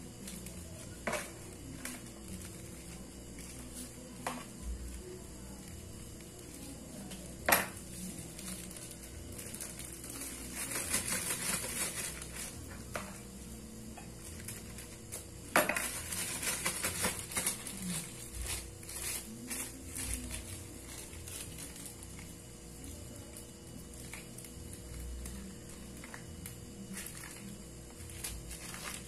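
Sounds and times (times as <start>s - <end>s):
plastic bag crinkling: 0.1s - 13.5s, 14.2s - 29.0s.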